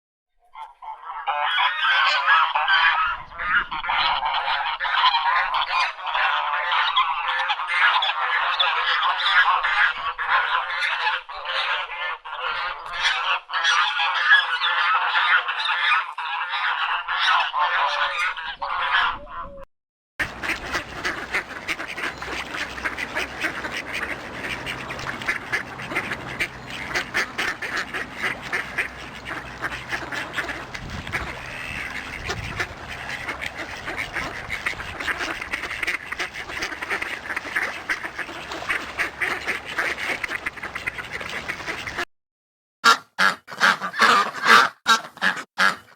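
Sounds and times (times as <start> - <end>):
ducks quacking: 0.6 - 19.6, 20.2 - 42.1, 42.8 - 45.9.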